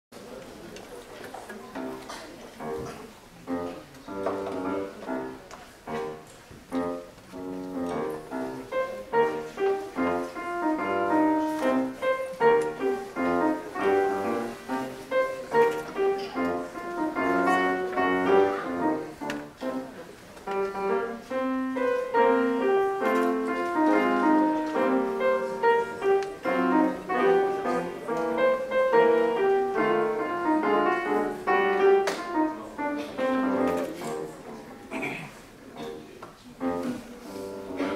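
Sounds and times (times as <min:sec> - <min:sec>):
grand piano playing: 0:01.8 - 0:34.8, 0:35.8 - 0:37.9.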